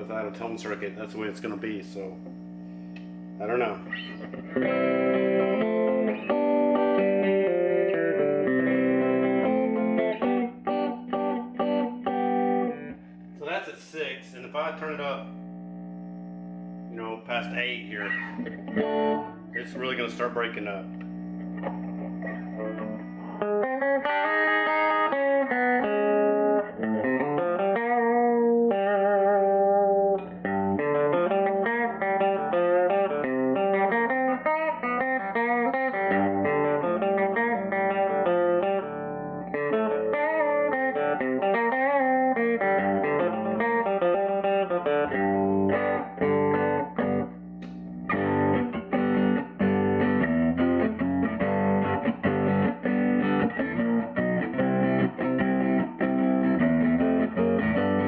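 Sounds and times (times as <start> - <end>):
electric guitar through tube amp: 0.0 - 58.0.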